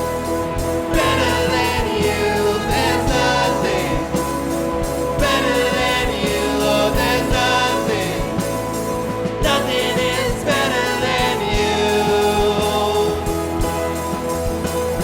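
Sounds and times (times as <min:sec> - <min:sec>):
steady drum beat: 0:00.0 - 0:15.0
worship band held chords: 0:00.0 - 0:15.0.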